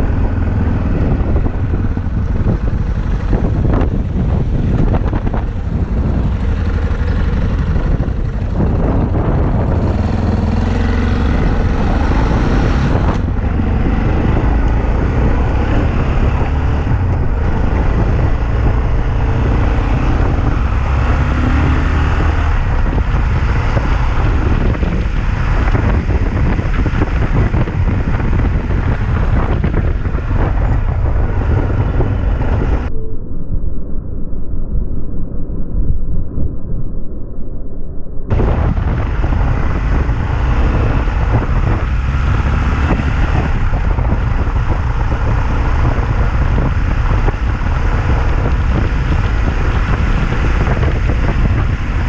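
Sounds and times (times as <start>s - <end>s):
motorcycle engine running: 0.0s - 32.9s, 38.3s - 52.0s
wind over microphone: 0.0s - 52.0s.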